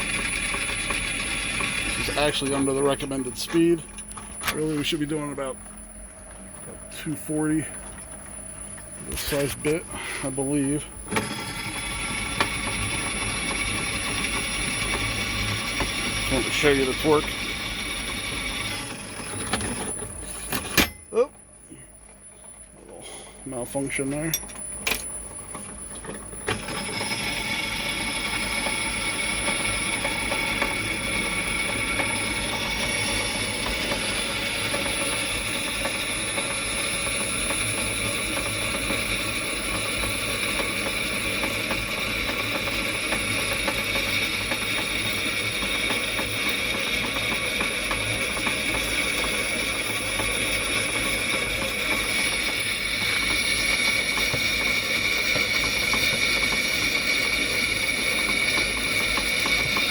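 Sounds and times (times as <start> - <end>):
drill press motor whine: 0.0 - 59.9.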